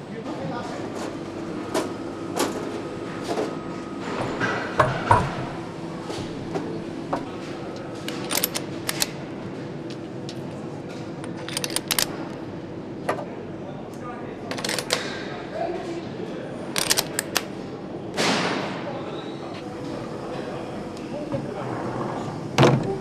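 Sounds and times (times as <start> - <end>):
steady machine hum: 0.0 - 18.8, 19.4 - 23.0.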